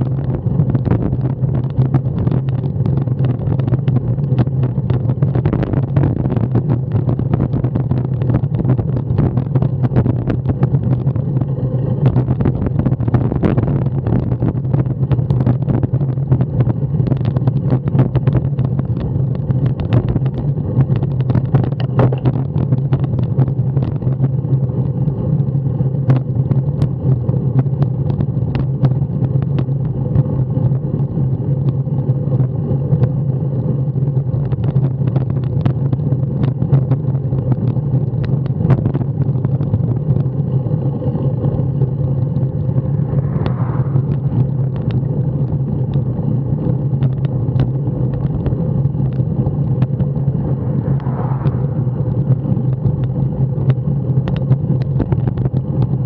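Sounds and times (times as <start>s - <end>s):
bicycle road vibration: 0.0s - 56.0s
wind rumble: 0.0s - 56.0s.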